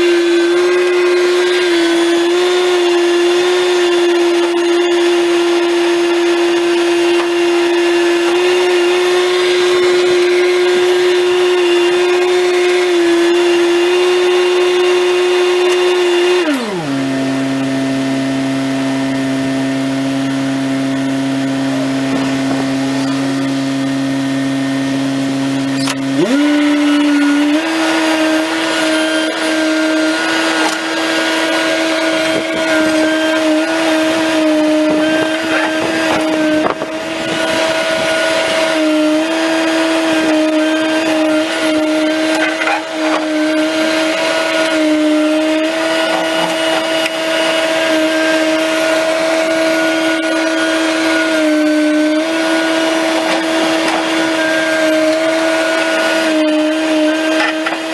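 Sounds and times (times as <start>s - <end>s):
stump grinder motor whine: 0.0s - 57.9s.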